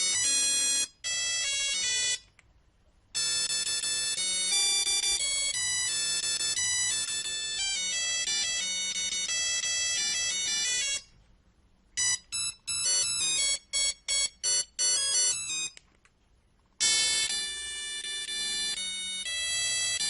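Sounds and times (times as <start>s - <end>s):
monophonic ringtone melodies: 0.0s - 2.3s, 3.2s - 11.1s, 12.0s - 15.8s, 16.8s - 20.0s.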